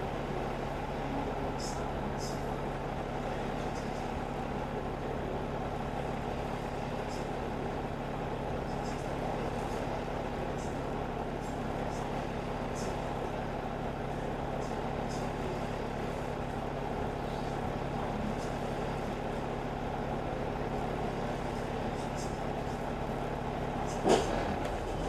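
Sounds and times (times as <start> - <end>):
bus engine and road drone: 0.0 - 25.0.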